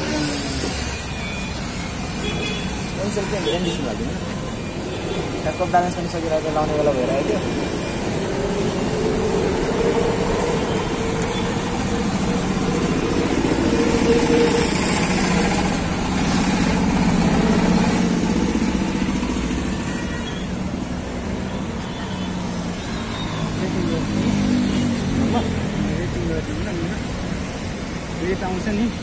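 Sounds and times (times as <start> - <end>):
traffic engines running: 0.0 - 29.0.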